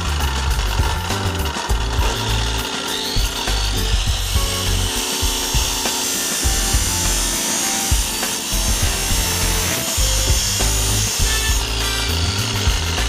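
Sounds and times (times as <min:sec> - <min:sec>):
background music with bass: 0:00.0 - 0:13.0
chop saw grinding metal pipe: 0:00.0 - 0:13.0.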